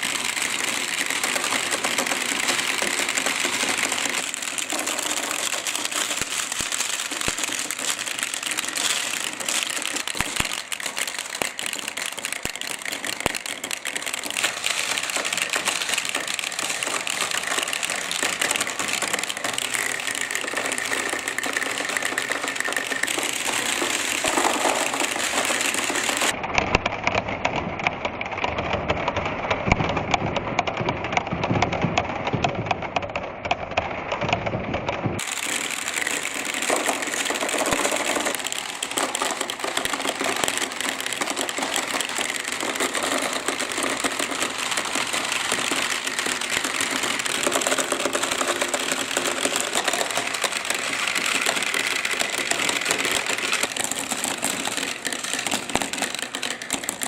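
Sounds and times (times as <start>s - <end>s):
balls rattling down marble run: 0.0s - 57.0s.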